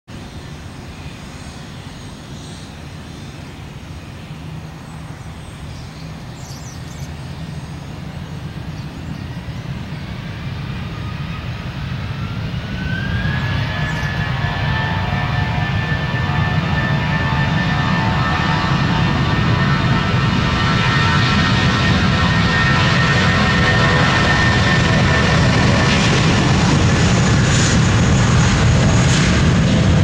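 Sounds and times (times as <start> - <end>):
jet engines rumbling: 0.1 - 30.0
jet engine whine rising: 0.2 - 30.0.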